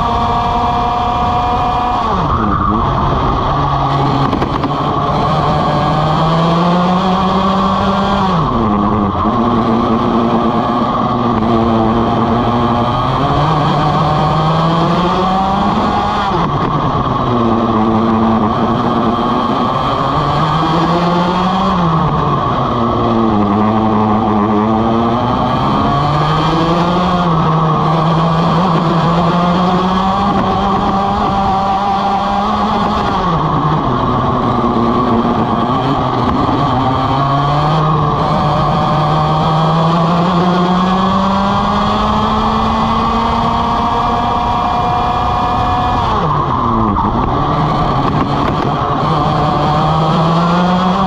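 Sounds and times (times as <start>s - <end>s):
kart engine revving: 0.0s - 51.0s.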